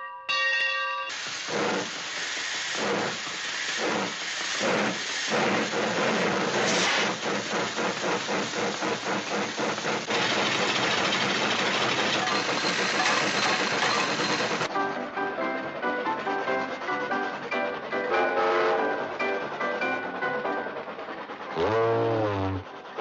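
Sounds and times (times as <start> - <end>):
steam rushing hiss: 1.1 - 23.0
steam train chuffing: 1.1 - 23.0.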